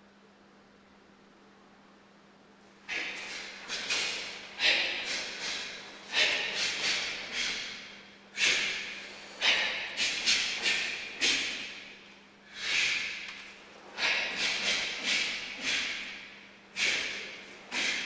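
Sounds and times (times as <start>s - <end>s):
sharp forceful breaths: 2.9s - 18.0s.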